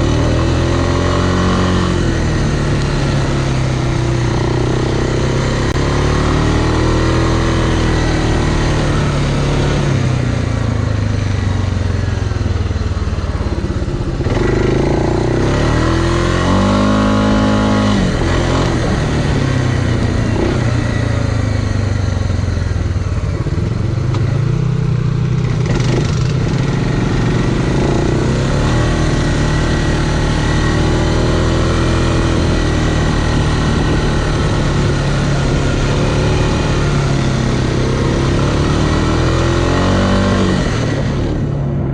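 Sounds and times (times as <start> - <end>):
off-road vehicle engine revving: 0.0 - 11.3, 13.4 - 21.8, 25.4 - 41.9.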